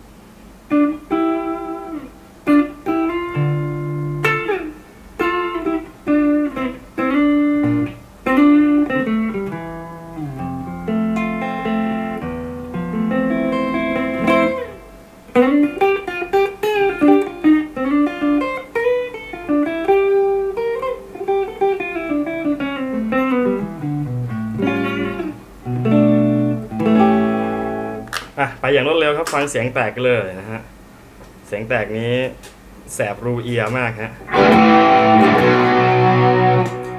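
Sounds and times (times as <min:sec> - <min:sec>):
clean electric guitar melody: 0:00.7 - 0:28.1, 0:34.3 - 0:36.9.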